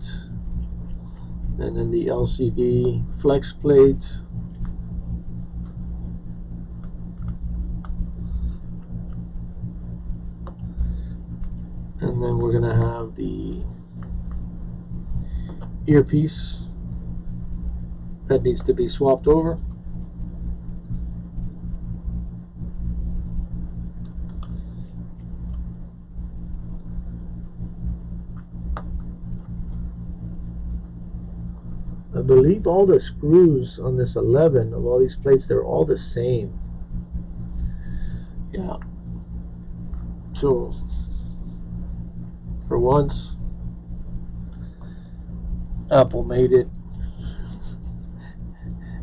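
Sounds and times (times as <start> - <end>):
low electrical hum: 0.0 - 49.0.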